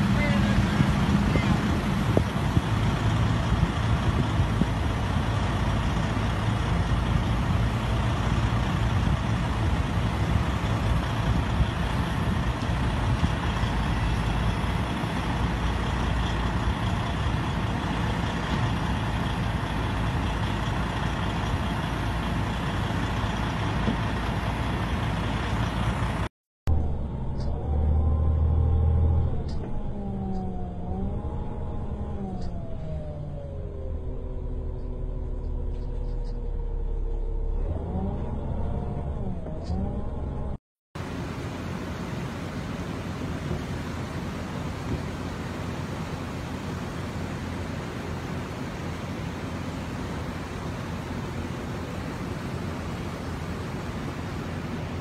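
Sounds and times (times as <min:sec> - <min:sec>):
low engine rumble: 0:00.0 - 0:55.0
vehicle road noise: 0:00.0 - 0:55.0.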